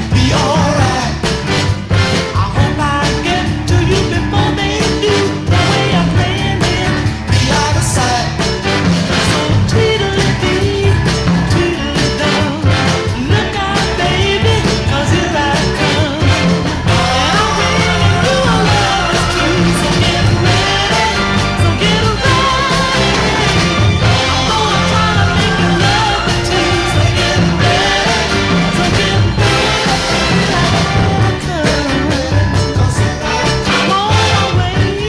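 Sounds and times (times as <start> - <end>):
rock and roll music: 0.0 - 35.0
person singing: 2.4 - 8.5, 9.2 - 35.0.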